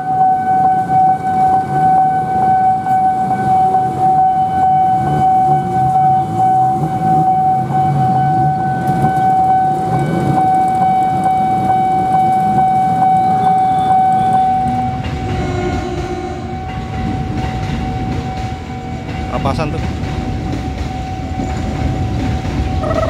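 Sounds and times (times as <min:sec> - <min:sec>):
level crossing alarm tone: 0:00.0 - 0:19.2, 0:20.7 - 0:23.0.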